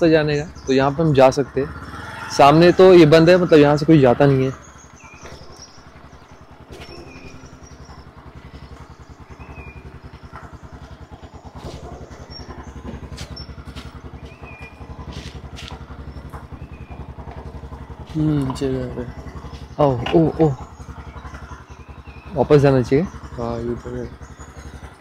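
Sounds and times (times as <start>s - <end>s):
bird chirps: 0.0s - 25.0s
small engine running: 0.0s - 25.0s.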